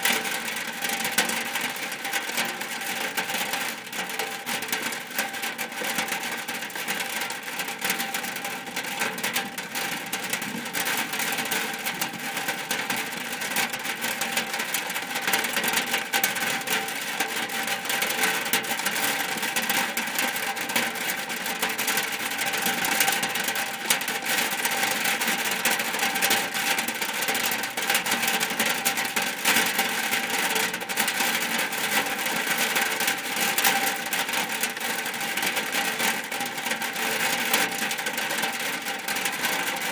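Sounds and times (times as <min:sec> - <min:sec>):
rain on a shack roof: 0:00.0 - 0:39.9.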